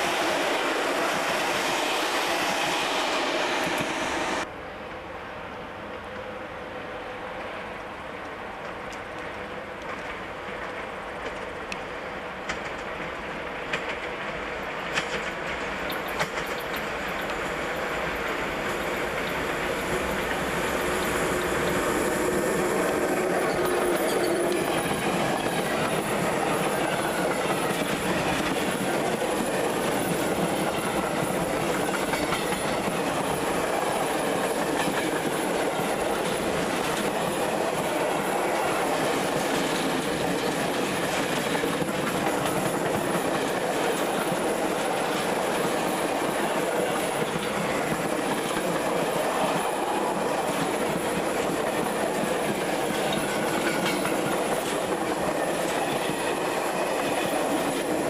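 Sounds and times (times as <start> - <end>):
train wheels clacking on rails: 0.0 - 4.5, 8.6 - 58.0.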